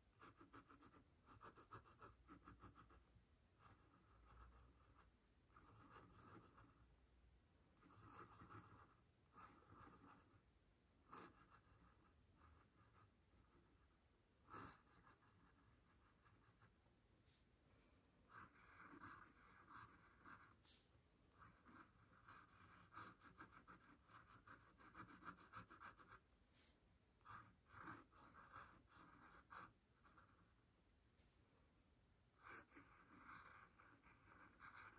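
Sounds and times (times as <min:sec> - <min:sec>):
pen scratching on paper: 0:00.1 - 0:06.9, 0:07.8 - 0:10.4, 0:11.1 - 0:16.8, 0:18.3 - 0:30.6, 0:32.4 - 0:34.9.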